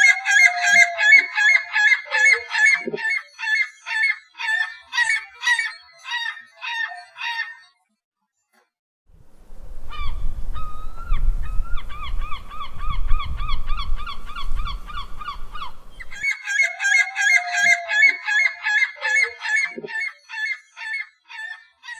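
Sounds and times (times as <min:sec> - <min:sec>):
gulls calling: 0:00.0 - 0:07.7, 0:09.9 - 0:21.9.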